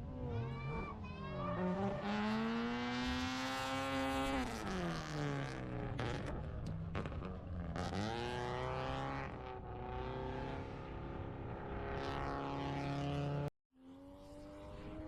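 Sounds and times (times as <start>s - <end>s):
car engine revving: 1.3s - 15.0s.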